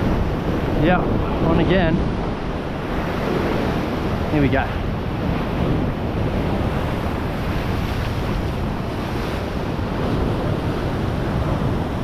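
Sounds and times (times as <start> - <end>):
ocean swell washing over rocks: 0.0 - 12.0
wind buffeting microphone: 0.0 - 12.0.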